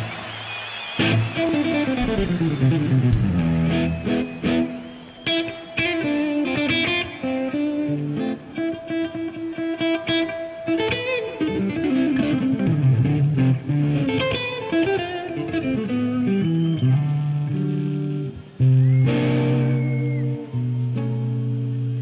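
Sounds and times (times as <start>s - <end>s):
electric guitar blues lead: 1.0s - 22.0s.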